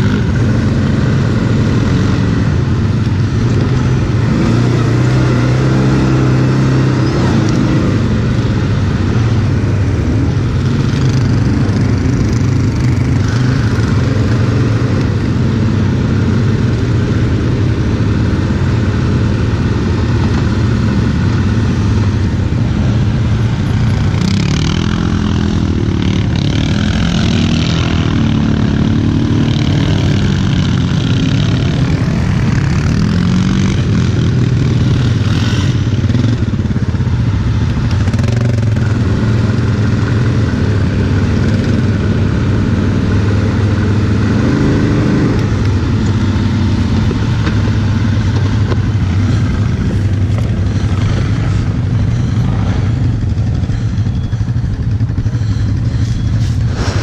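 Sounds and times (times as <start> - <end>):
quad engine revving: 0.0 - 36.8, 37.6 - 54.2.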